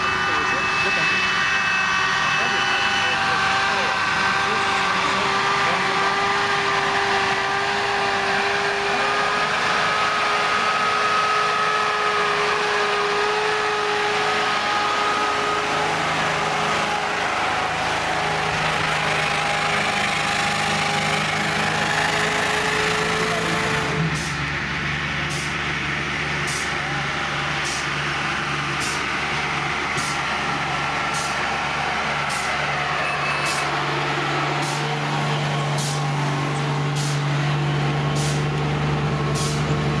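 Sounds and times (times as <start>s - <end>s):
high engine whine: 0.0s - 40.0s
truck engine rumble: 0.0s - 40.0s.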